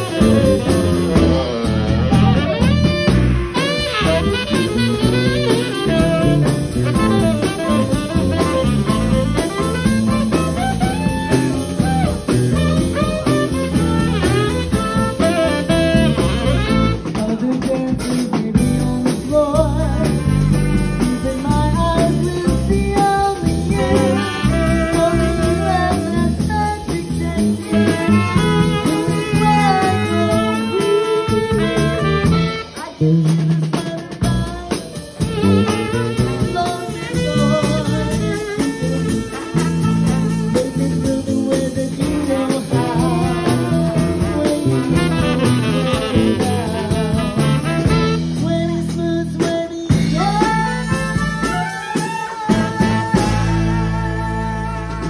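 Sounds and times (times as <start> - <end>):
trumpet melody: 0.0 - 17.5, 19.4 - 49.0, 49.8 - 55.0
drum kit: 0.0 - 55.0
electric keyboard: 0.0 - 55.0.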